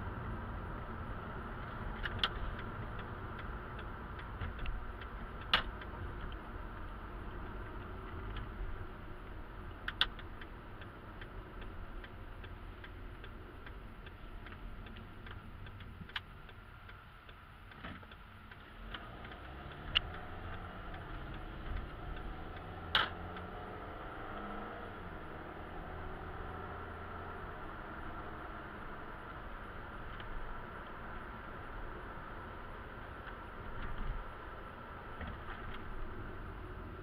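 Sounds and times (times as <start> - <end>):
car road and engine rumble: 0.0 - 37.0
turn signal ticking: 0.1 - 37.0.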